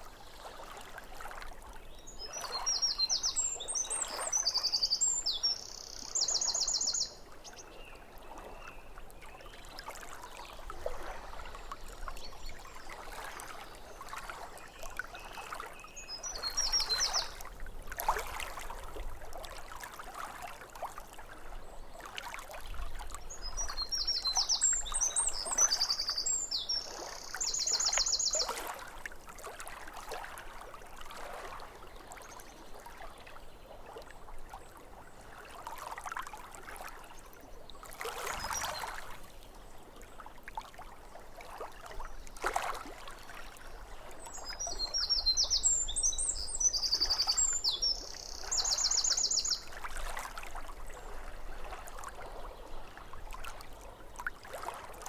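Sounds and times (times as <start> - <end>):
waves lapping at shore: 0.0 - 55.0.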